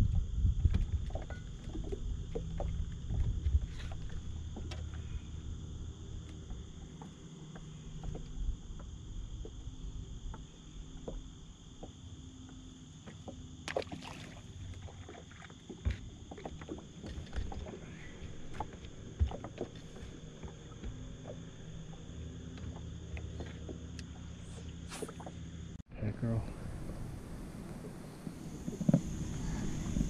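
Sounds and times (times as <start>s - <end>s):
wind and water rumble: 0.0s - 30.0s.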